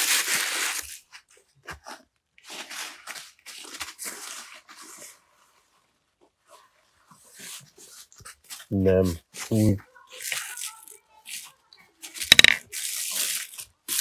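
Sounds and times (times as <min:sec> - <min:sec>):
food crinkling and rustling: 0:00.0 - 0:14.0.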